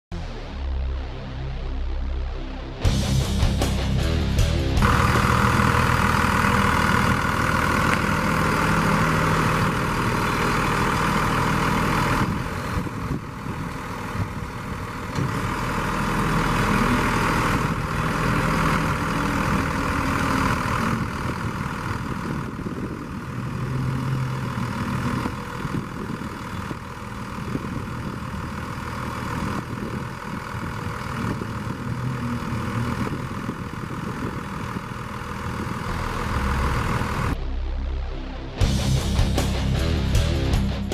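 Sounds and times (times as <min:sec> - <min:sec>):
truck engine running: 0:00.2 - 0:40.9.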